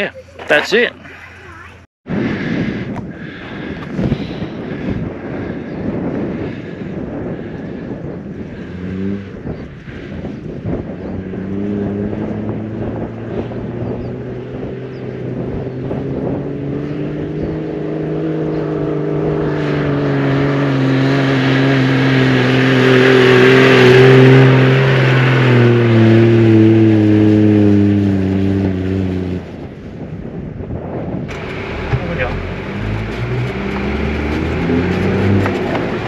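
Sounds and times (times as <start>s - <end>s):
car engine working hard: 1.6s - 36.0s.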